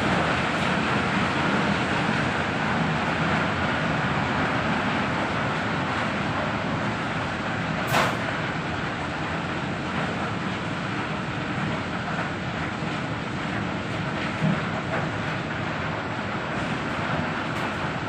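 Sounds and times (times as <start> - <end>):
industrial machinery noise: 0.0 - 18.0.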